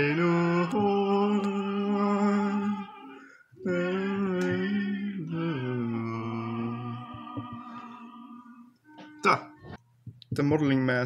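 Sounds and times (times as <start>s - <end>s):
person humming a slow tune: 0.0s - 9.8s.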